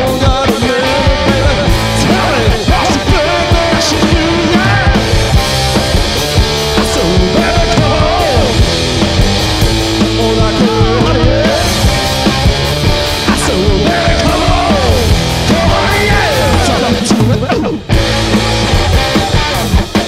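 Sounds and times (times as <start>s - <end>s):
live garage rock band: 0.0s - 20.0s.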